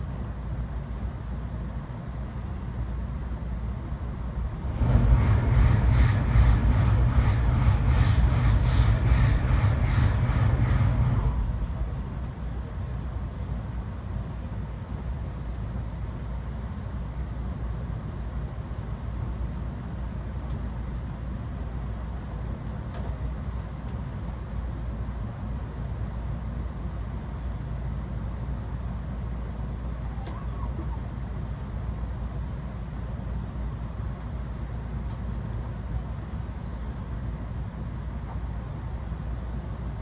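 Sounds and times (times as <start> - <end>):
train rumble and hum: 0.0 - 40.0.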